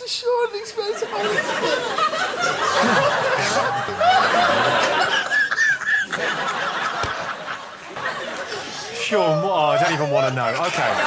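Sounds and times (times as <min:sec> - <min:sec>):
people laughing: 0:00.8 - 0:11.0.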